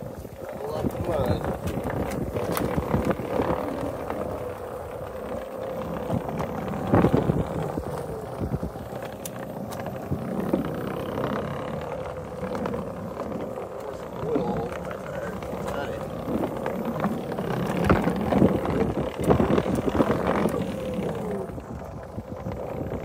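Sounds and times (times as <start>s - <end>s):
electric motor hum: 0.0s - 23.0s
wheel knocking on boards: 0.4s - 23.0s
tyre rumble on wood: 0.8s - 23.0s.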